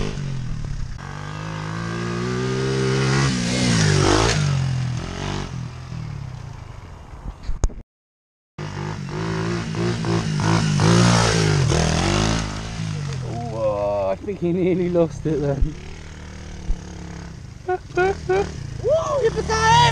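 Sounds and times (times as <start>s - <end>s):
pit bike engines revving past: 0.0s - 6.8s, 8.6s - 19.9s.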